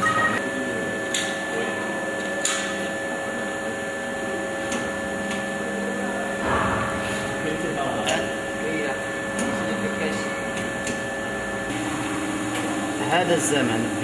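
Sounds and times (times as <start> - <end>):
machine hum with whine: 0.0 - 14.0.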